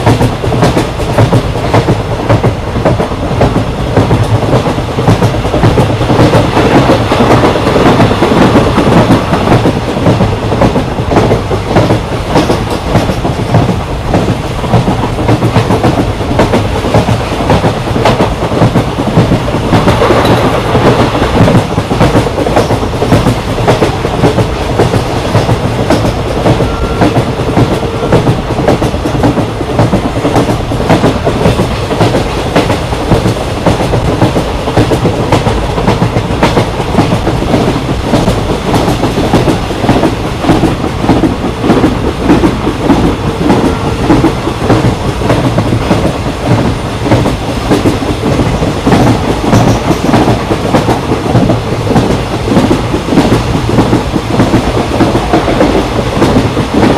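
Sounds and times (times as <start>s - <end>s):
clickety-clack over rail joints: 0.0s - 56.9s
train coach rattling: 0.0s - 56.9s
train wheels rumbling on rails: 0.0s - 56.9s.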